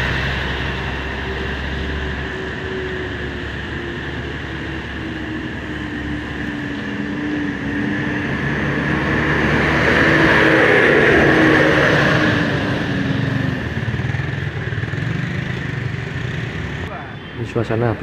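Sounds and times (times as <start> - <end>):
coach bus driving past: 0.0 - 18.0
slow heavy road traffic: 0.0 - 18.0.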